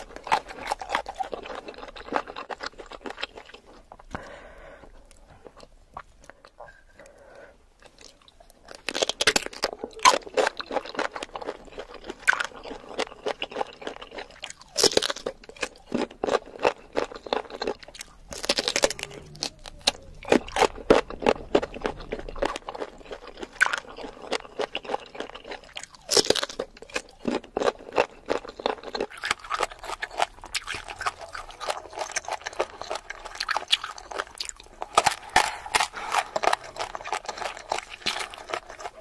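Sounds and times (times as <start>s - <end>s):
crunching and chewing mango: 0.0s - 7.2s, 7.8s - 39.0s.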